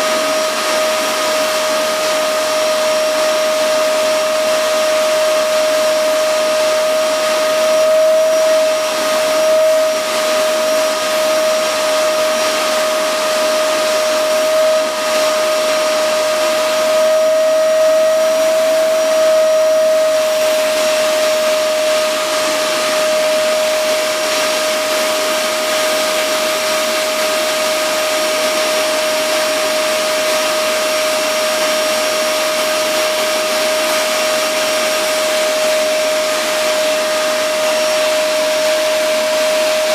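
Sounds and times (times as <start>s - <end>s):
vacuum cleaner motor whining: 0.0s - 39.9s.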